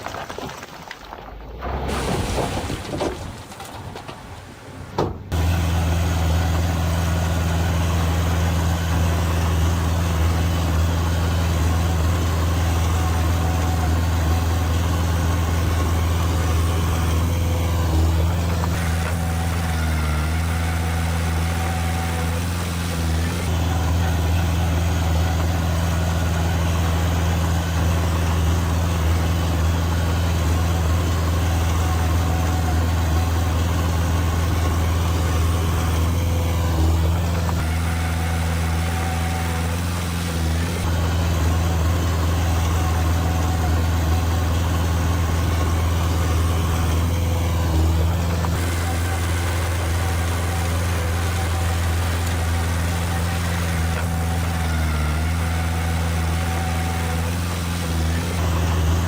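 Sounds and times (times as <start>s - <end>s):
diesel engine humming: 1.0s - 59.0s.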